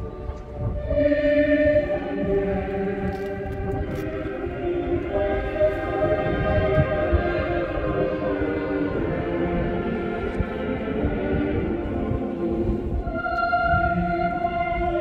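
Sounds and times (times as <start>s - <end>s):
choir singing a slow hymn: 0.0s - 15.0s.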